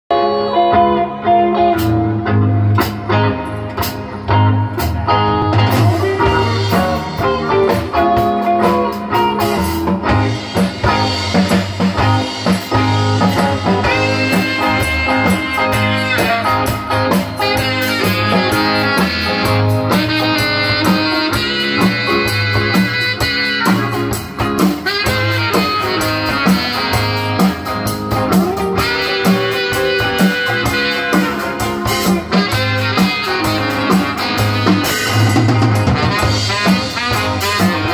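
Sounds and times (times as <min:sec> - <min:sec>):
live blues band playing: 0:00.1 - 0:37.9.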